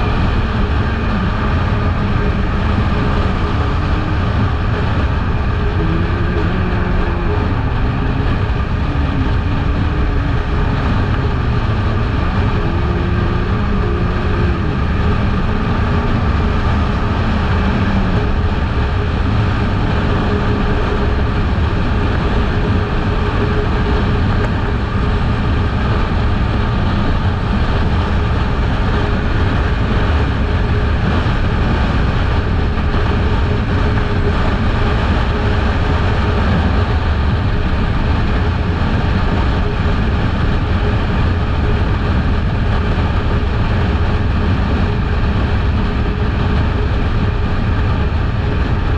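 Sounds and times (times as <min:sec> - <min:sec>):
motorcycle engine droning: 0:00.0 - 0:48.9
wind and road noise: 0:00.0 - 0:48.9.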